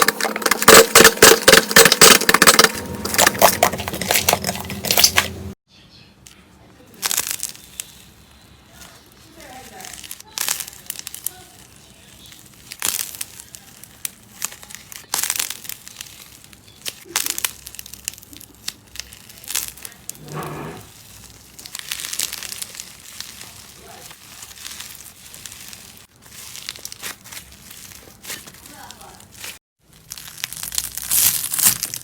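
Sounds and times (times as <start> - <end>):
slime crackling and popping: 0.0 - 5.6, 6.9 - 32.0.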